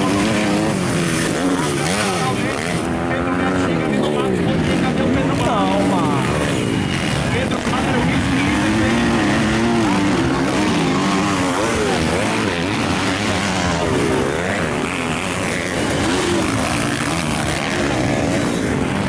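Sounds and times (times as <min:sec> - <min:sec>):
motocross bike engines buzzing: 0:00.0 - 0:19.0.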